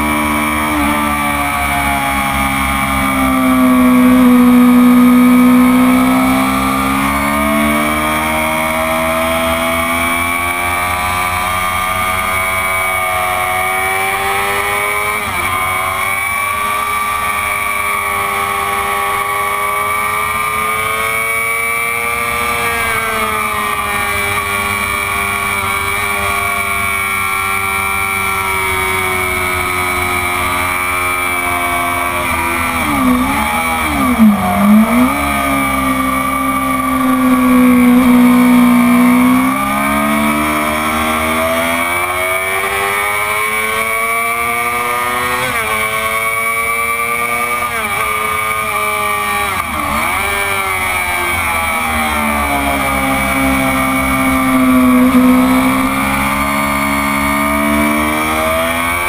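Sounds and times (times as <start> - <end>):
motorcycle engine running under load: 0.0 - 59.0.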